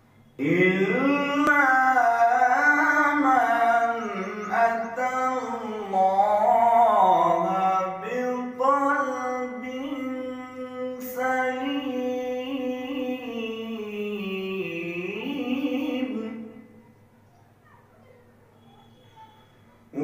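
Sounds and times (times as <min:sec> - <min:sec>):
man chanting recitation: 0:00.4 - 0:16.9.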